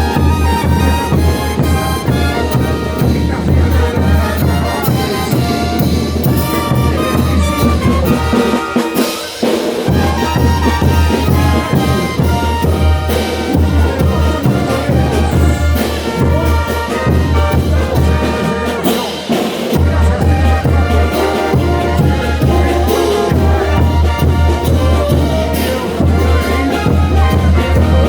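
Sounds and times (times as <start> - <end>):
brass band playing: 0.0 - 28.0
trumpets and trombones: 0.0 - 28.0.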